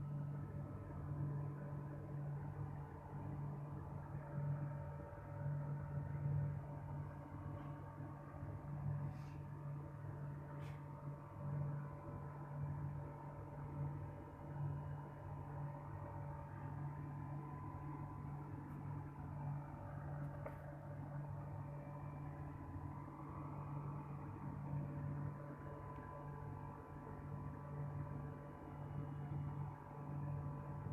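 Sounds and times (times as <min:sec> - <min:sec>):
faint high whining tones: 0:00.0 - 0:30.9
low electrical hum: 0:00.0 - 0:30.9.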